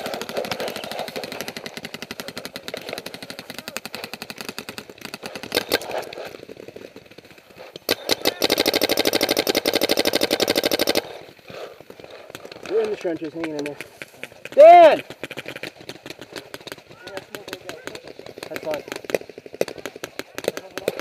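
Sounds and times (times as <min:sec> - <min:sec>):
paintball markers firing: 0:00.0 - 0:21.0.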